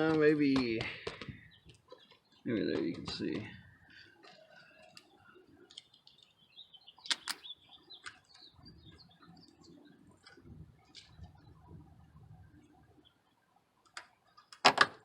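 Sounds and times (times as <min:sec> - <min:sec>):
faint bird chirping: 0:01.2 - 0:14.4.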